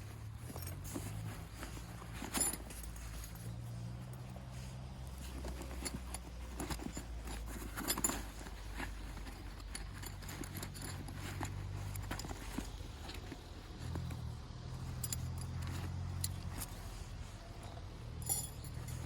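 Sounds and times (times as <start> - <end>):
gear clicks taps and rustles: 0.0 - 19.0.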